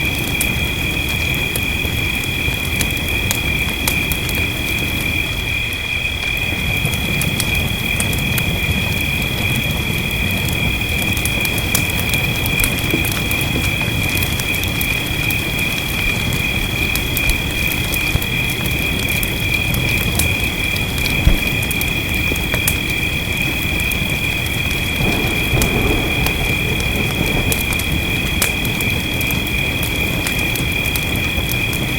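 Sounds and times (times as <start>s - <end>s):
fireplace crackling and popping: 0.0s - 31.9s
rain rumble: 0.0s - 31.9s.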